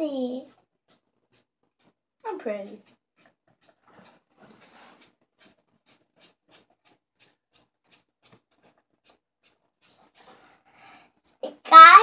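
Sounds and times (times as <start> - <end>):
paintbrush strokes on felt: 0.3 - 11.4.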